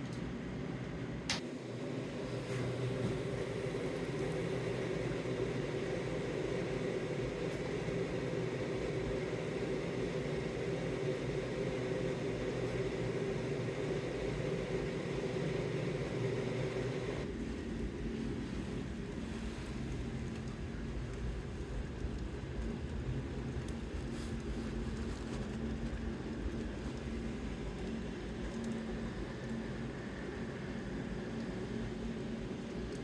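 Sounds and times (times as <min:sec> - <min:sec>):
sap boiling in a pan: 0:00.3 - 0:33.0
firebox rumble: 0:01.2 - 0:33.0.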